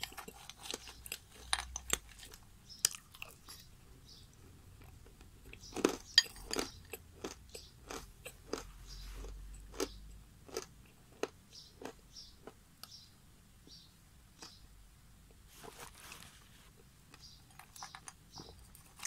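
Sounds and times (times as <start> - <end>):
crunching and chewing clay: 0.0 - 13.0, 14.3 - 14.6, 16.7 - 19.0.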